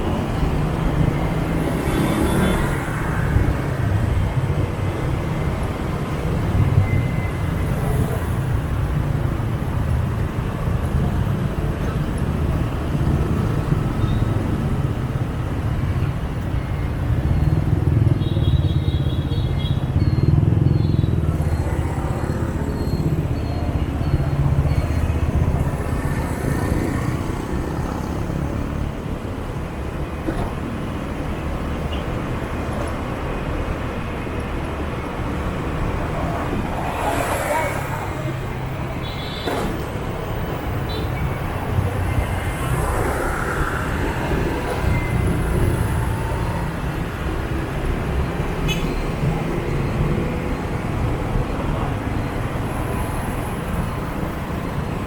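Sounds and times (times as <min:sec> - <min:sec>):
surrounding traffic noise: 0:00.0 - 0:55.0.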